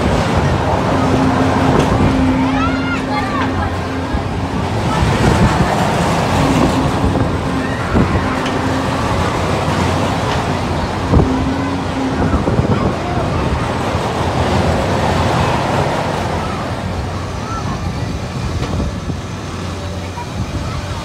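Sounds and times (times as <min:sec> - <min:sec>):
loud mechanical rumble of ride: 0:00.0 - 0:21.0.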